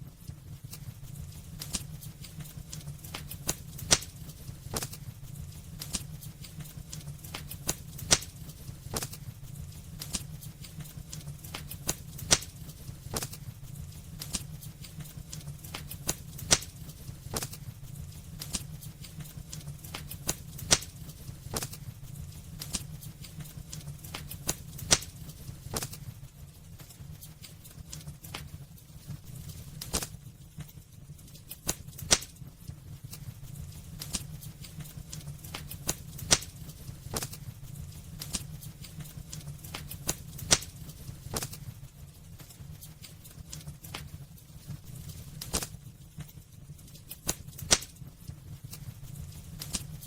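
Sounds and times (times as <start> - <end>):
fire crackling and popping: 0.0 - 50.0
low rumble of fire: 0.0 - 50.0.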